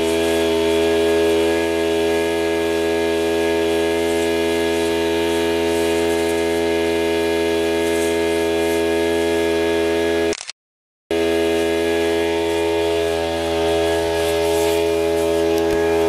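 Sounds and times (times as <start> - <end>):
steady engine drone: 0.0 - 10.4, 11.1 - 16.0.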